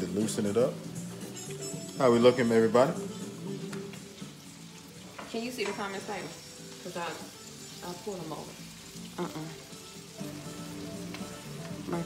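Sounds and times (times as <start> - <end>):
background music: 0.0 - 12.0
vegetables sizzling in a frying pan: 0.0 - 12.0.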